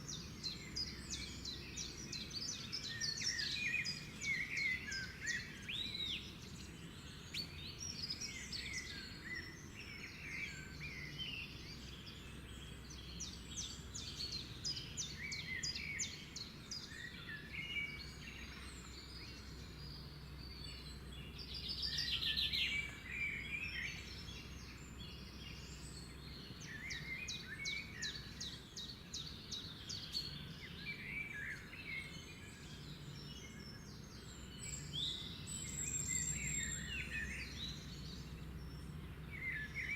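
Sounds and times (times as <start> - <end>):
birds chirping and trilling: 0.0 - 39.9
low background noise: 0.0 - 39.9.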